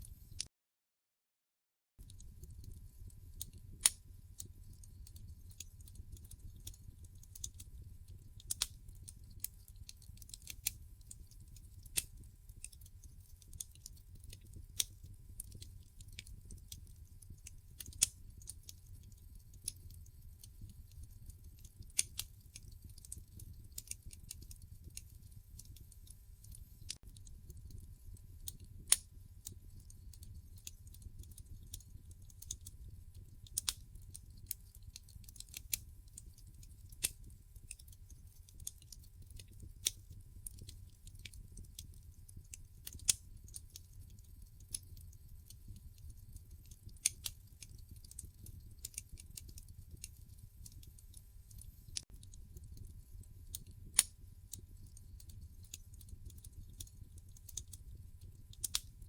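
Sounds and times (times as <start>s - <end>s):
low rumble of burning logs: 2.0s - 59.0s
wood fire crackling: 2.0s - 59.0s.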